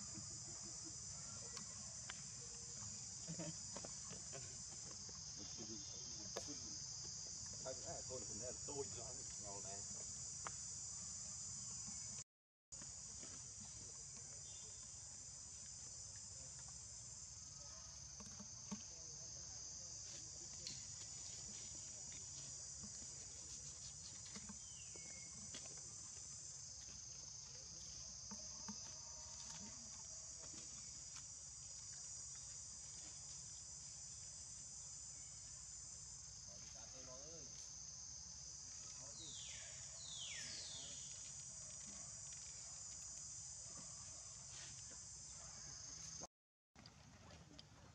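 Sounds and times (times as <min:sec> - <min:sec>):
insect chorus buzzing: 0:00.0 - 0:12.2, 0:12.8 - 0:46.3.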